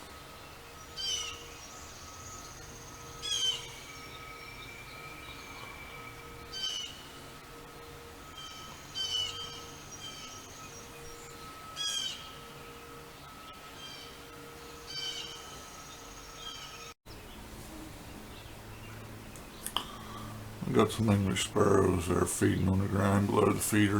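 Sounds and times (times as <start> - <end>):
songbird chirping: 0.0 - 23.9
town background hum: 0.0 - 23.9.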